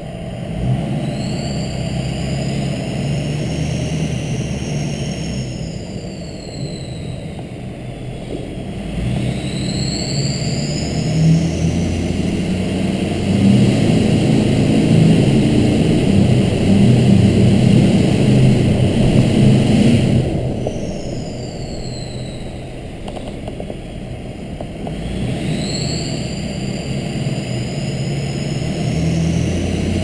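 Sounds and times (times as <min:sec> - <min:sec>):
diesel truck engine running: 0:00.0 - 0:30.0
turbocharger whistling: 0:00.0 - 0:30.0.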